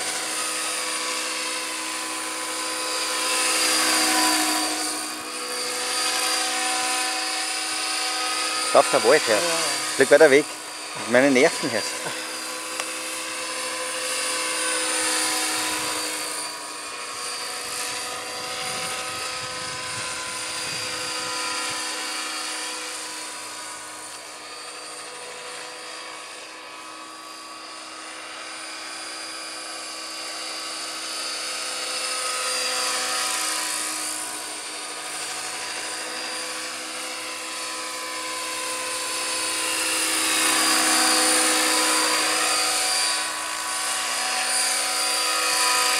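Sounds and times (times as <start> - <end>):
model helicopter whine and rotor: 0.0 - 45.9.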